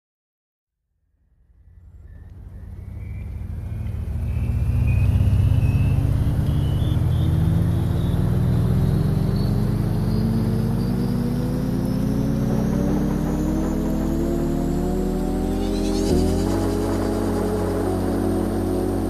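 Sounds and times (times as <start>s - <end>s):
low engine-like drone rising in pitch: 1.2s - 19.0s.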